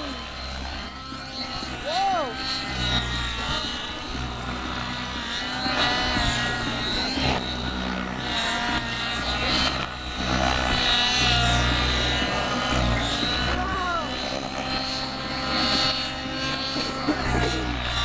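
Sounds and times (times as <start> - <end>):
rc helicopter rotor whine: 0.0 - 18.0.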